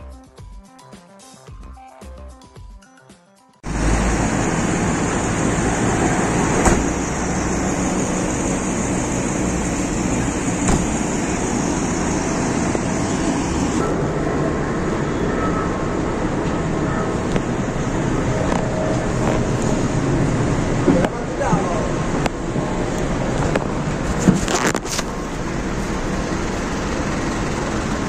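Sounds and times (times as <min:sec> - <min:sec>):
street traffic rumble: 0:03.6 - 0:28.0.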